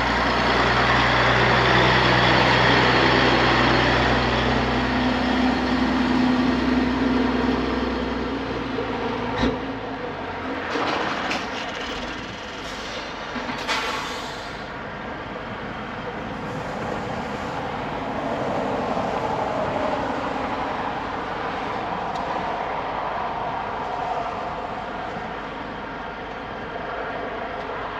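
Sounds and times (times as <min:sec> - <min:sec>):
vehicle rumble and hiss: 0:00.0 - 0:27.9.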